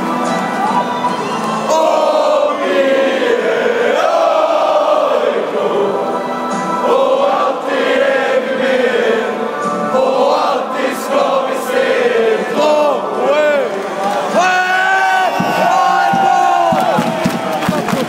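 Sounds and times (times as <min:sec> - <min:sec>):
football crowd chanting: 0:01.7 - 0:06.2, 0:06.8 - 0:17.1.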